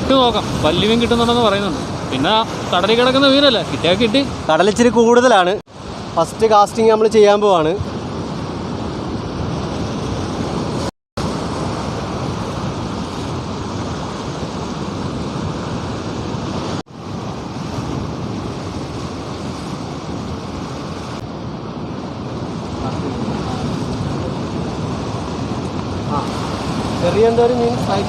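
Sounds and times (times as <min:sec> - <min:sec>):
sea waves and surf washing: 0:00.0 - 0:28.0
wind on microphone: 0:00.0 - 0:28.0.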